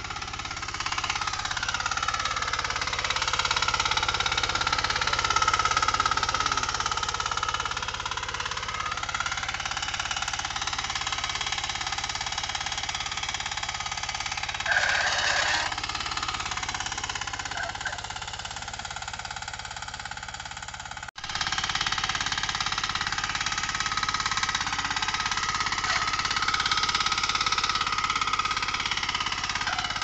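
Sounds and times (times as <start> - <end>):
power tiller engine running: 0.0 - 30.0.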